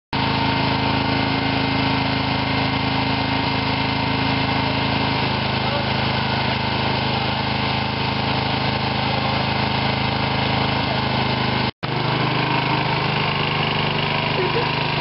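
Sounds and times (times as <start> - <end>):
tractor engine idling: 0.2 - 15.0.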